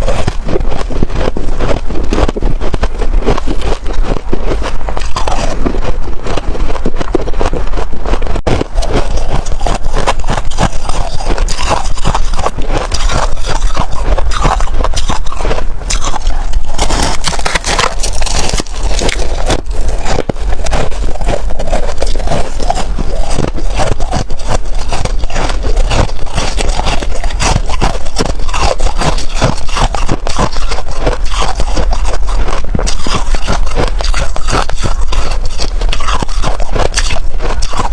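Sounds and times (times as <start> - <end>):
crunching and chewing frost: 0.0 - 37.9.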